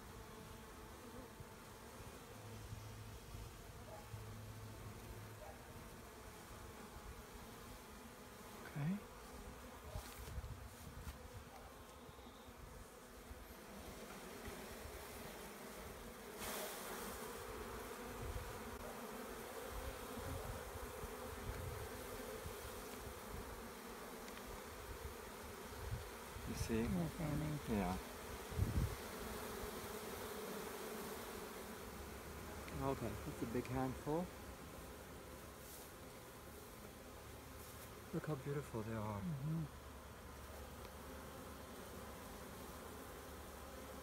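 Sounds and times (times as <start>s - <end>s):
bees buzzing: 0.0s - 44.0s.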